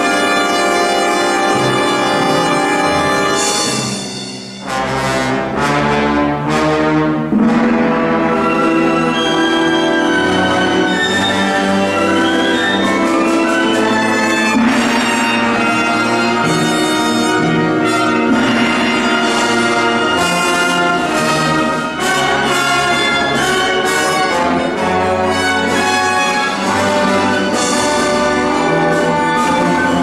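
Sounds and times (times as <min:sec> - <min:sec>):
symphony orchestra playing: 0:00.0 - 0:30.0.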